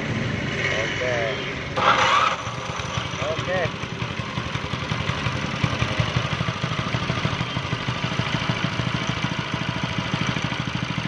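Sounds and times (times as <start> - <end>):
small engine idling: 1.8 - 11.0.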